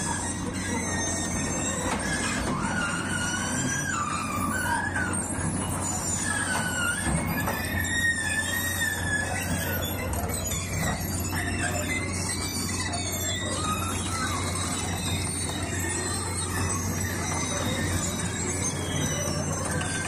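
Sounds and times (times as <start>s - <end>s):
track chains squealing: 0.0s - 20.0s.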